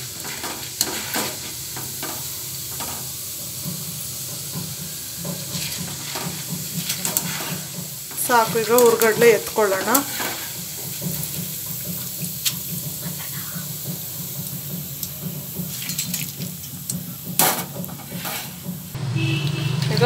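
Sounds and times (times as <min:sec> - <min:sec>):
hot oil sizzling: 0:00.0 - 0:20.0
metal clattering: 0:00.1 - 0:19.0.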